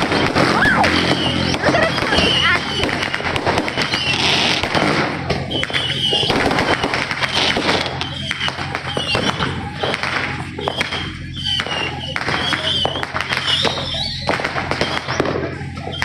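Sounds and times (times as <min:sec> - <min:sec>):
fireworks popping and banging: 0:00.0 - 0:16.0
fireworks whistling: 0:00.0 - 0:16.0.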